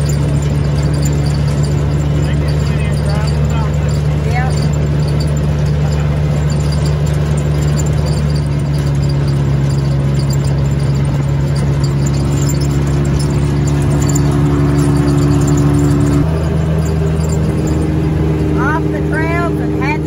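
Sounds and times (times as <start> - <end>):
atv engine drone: 0.0 - 20.0.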